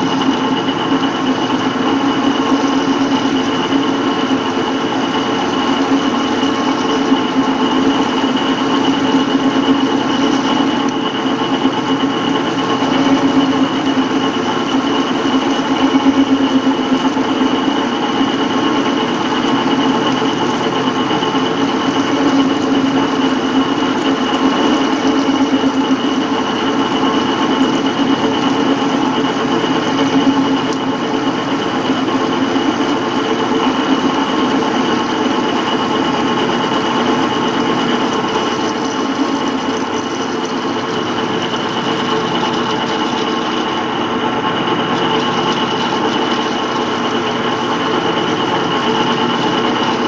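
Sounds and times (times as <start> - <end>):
metal lathe humming with high whine: 0.0 - 50.0.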